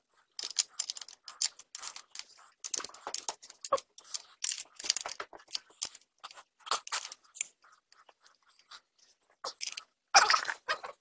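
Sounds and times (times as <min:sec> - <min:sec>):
metal clicks and scrapes: 0:00.2 - 0:08.7, 0:09.5 - 0:09.9.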